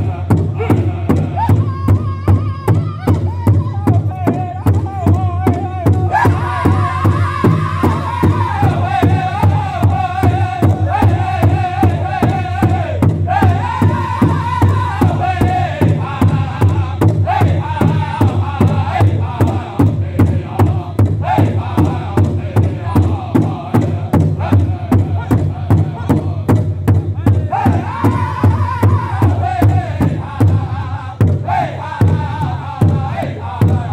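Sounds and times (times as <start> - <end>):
bass drum beat: 0.0 - 33.9
drum group singing: 0.0 - 33.9.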